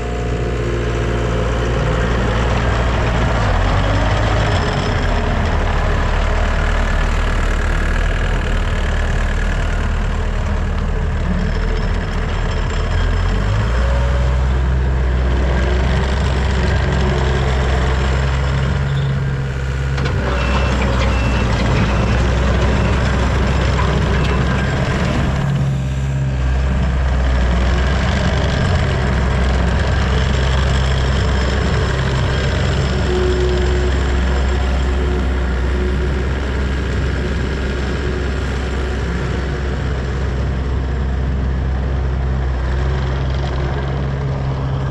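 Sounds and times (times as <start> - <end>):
skid steer diesel engine running: 0.0 - 44.9.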